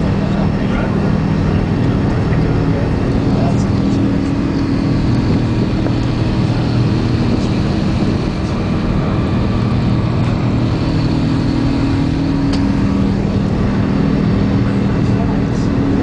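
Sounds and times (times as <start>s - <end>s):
aircraft engine and airflow rush: 0.0s - 16.0s
low cabin hum: 0.0s - 16.0s.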